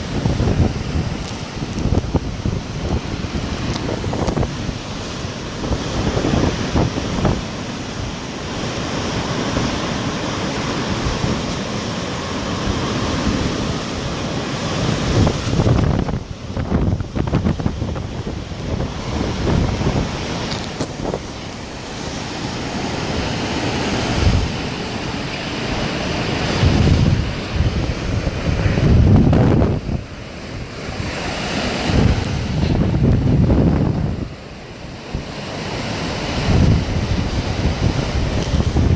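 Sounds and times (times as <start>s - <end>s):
storm wind rushing: 0.0s - 38.9s
wind gusts buffeting microphone: 0.0s - 38.9s.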